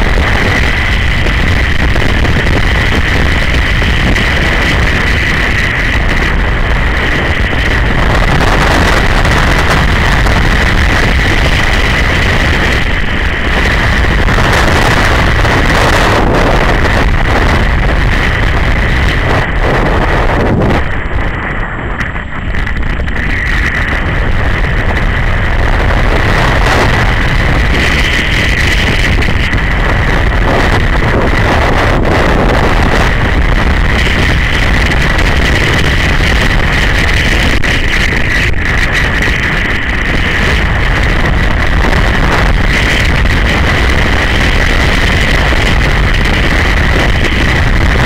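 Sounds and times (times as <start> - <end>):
motorcycle engine running: 0.0 - 48.0
wind rushing over microphone: 0.0 - 48.0.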